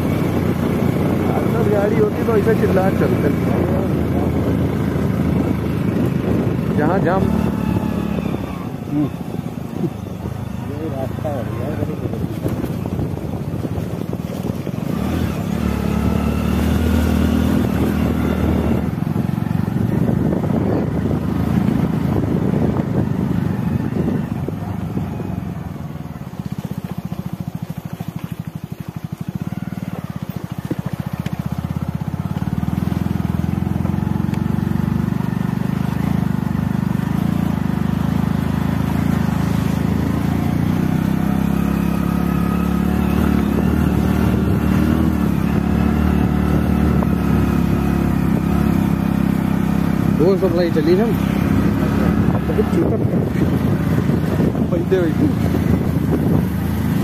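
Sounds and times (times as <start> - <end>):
rattling over rough road: 0.0 - 57.0
small motorbike engine running: 0.0 - 57.0.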